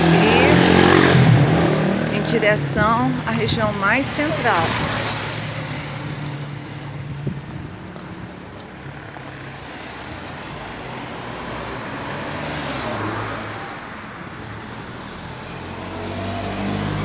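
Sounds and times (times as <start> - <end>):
car passing: 0.0 - 17.0.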